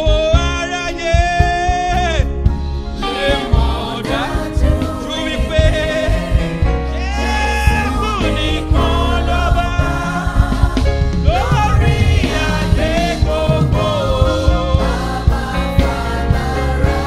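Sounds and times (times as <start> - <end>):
bass and drums: 0.0 - 17.0
lead voice singing gospel: 0.0 - 17.0
backing voices singing: 2.9 - 17.0.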